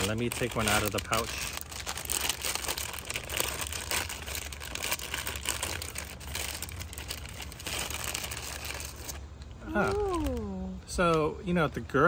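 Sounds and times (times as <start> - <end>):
plastic wrapper crinkling: 0.0 - 11.1.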